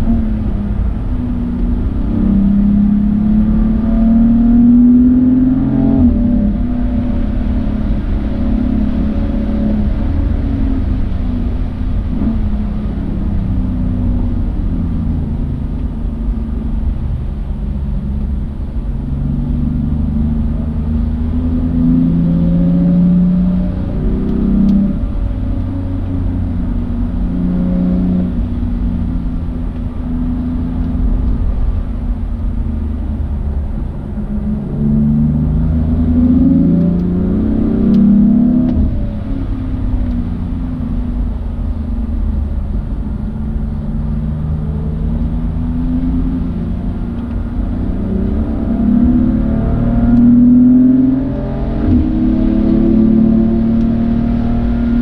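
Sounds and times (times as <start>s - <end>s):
car engine accelerating: 0.0s - 55.0s
steady low rumble: 0.0s - 55.0s.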